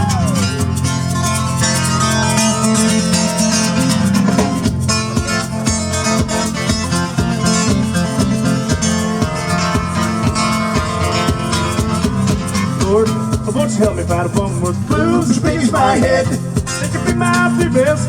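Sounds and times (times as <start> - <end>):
strummed country guitar: 0.0 - 18.0.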